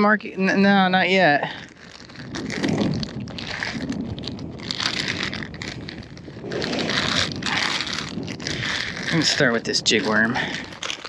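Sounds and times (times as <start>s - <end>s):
wind buffeting microphone: 0.0s - 11.0s
plastic bag crinkling: 0.5s - 11.0s.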